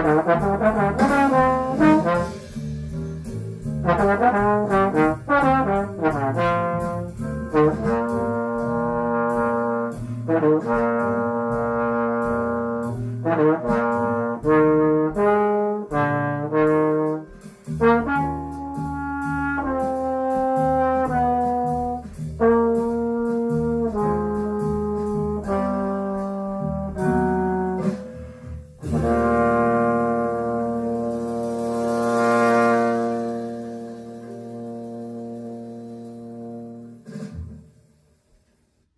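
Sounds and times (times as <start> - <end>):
slide trombone jazz ballad: 0.0 - 37.8.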